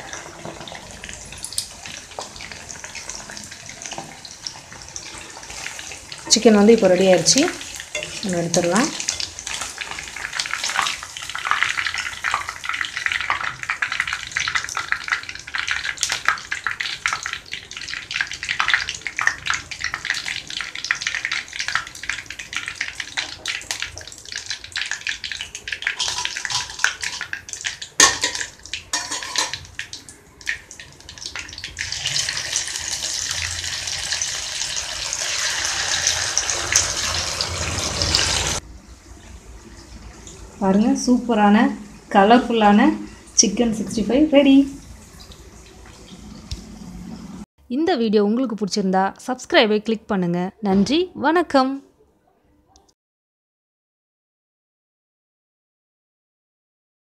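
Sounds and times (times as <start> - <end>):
chicken deep-frying in oil: 0.0 - 46.8.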